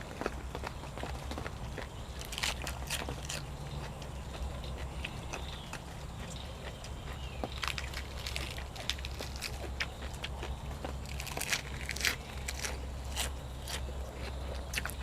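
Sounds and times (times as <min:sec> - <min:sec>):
chewing: 0:00.0 - 0:15.0
crunchy clicks: 0:00.0 - 0:15.0.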